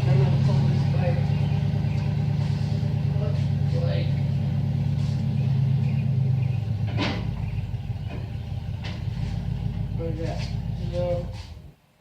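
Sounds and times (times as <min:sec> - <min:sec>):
truck engine idling: 0:00.0 - 0:11.9.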